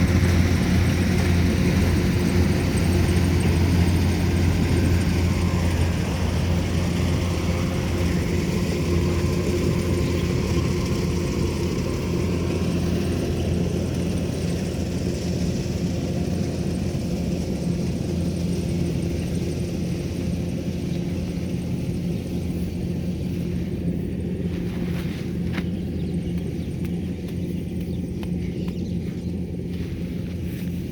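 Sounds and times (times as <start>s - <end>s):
harvester engine running: 0.0s - 30.9s.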